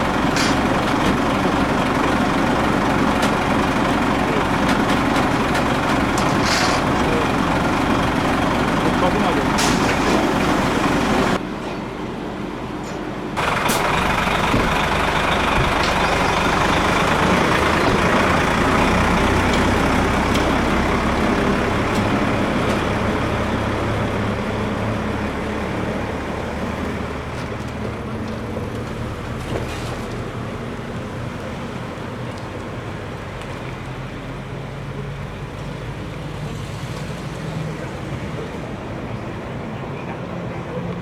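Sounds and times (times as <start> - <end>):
large truck engine running: 0.0 - 41.0.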